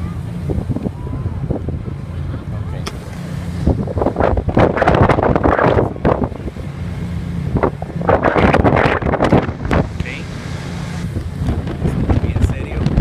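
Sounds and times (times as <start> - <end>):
ship engine drone: 0.0 - 13.0
wind buffeting microphone: 0.0 - 13.0.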